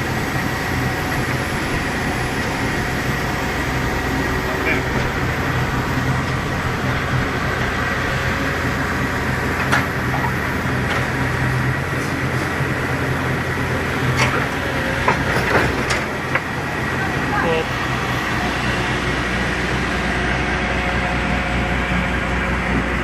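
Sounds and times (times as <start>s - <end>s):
diesel machinery droning: 0.0s - 23.0s.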